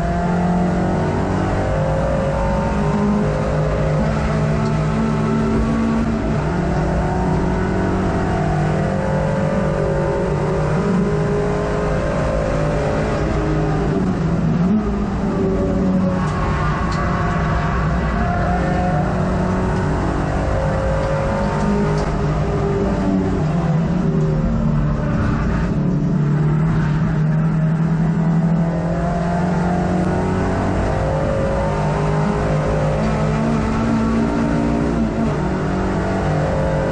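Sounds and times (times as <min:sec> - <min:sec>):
race car engine from inside cabin: 0:00.0 - 0:36.9.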